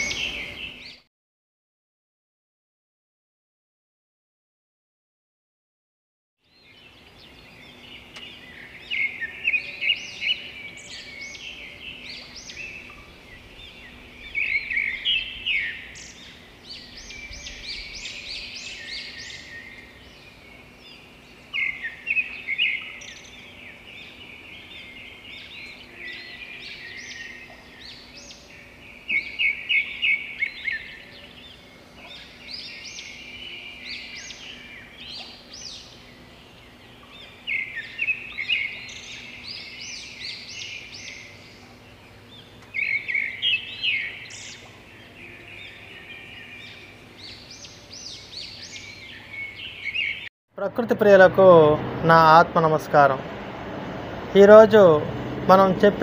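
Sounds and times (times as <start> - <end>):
small birds chirping: 0.0 - 1.1, 6.4 - 53.2
faint steady hum: 6.5 - 55.6.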